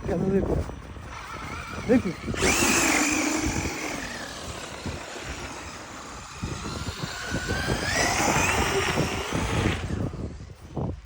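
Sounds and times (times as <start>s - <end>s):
electric motor whining: 0.7s - 11.0s.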